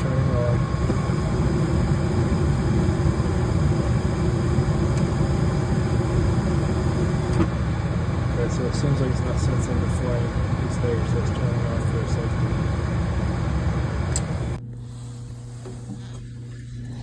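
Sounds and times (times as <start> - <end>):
furnace motor humming: 0.0 - 17.0.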